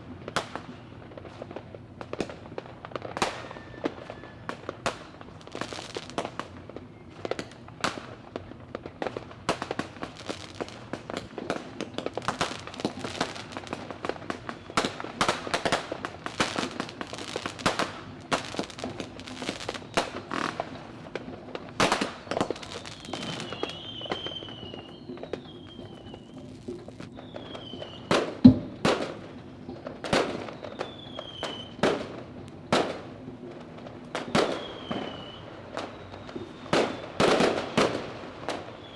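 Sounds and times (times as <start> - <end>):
fireworks bangs and crackling: 0.0 - 38.9
falling firework whistles: 2.3 - 8.4, 9.6 - 33.2, 34.1 - 38.9.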